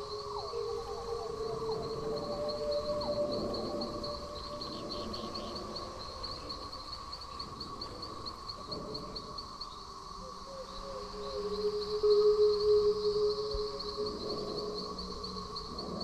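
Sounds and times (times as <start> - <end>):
high insect-like chirp: 0.0 - 16.0.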